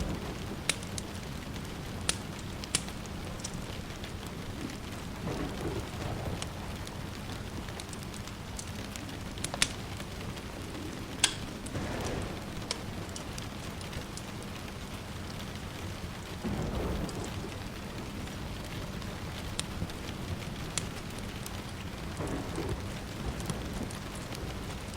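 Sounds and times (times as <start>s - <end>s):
distant thunder rumbles: 0.0s - 24.9s
steady rain: 0.0s - 24.9s
wood fire crackling: 0.0s - 24.9s.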